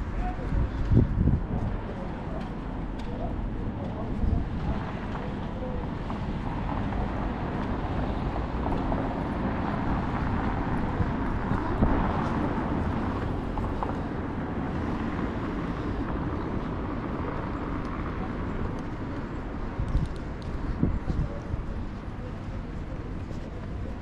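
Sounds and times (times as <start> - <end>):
city street rumble: 0.0 - 24.0.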